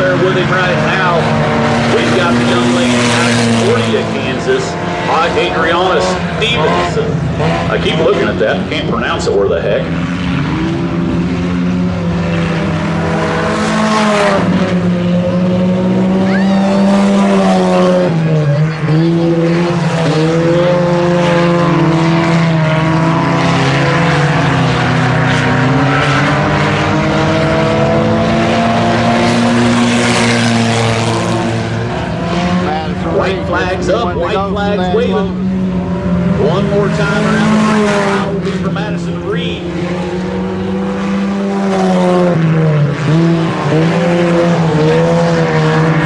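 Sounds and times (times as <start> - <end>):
race car engines revving: 0.0 - 46.0.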